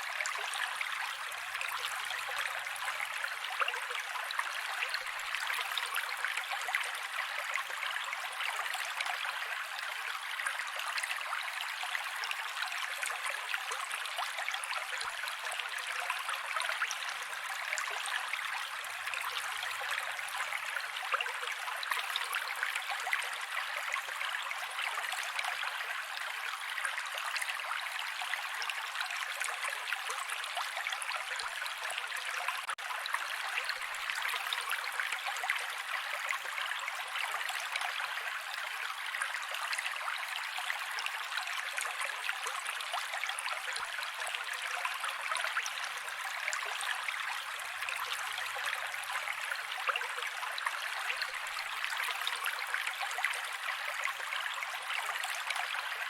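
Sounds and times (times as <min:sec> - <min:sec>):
creek water running over rocks: 0:00.0 - 0:56.0.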